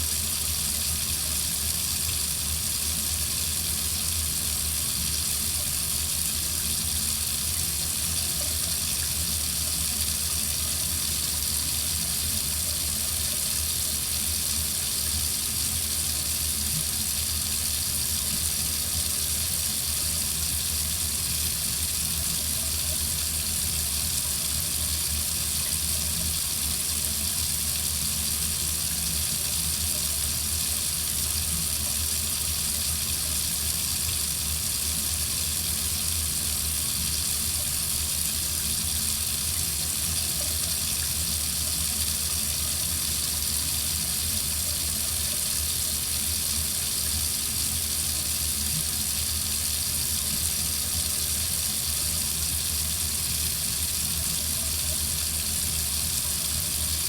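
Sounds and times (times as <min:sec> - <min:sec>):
faucet water running into sink: 0:00.0 - 0:57.0.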